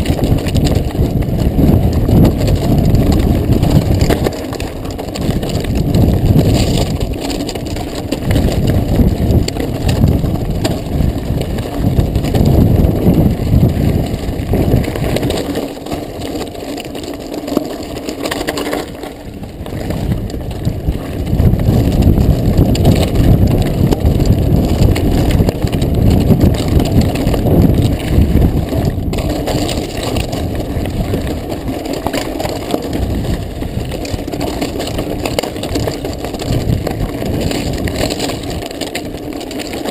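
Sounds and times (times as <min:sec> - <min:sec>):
bike rattling over stones: 0:00.0 - 0:39.9
bike tyres crunching on gravel: 0:00.0 - 0:39.9.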